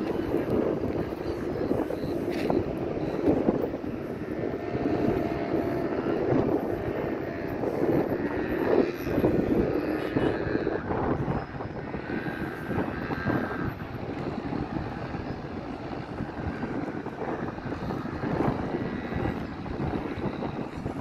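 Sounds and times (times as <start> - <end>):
distant engines droning: 0.0 - 21.0.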